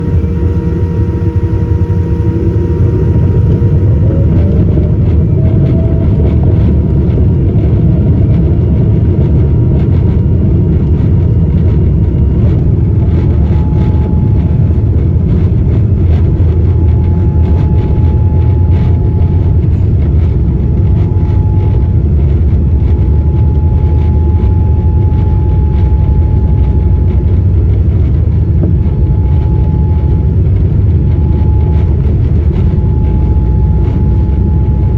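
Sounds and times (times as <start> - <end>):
jet engine whine: 0.0 - 34.9
jet engines rumbling in cabin: 0.0 - 34.9.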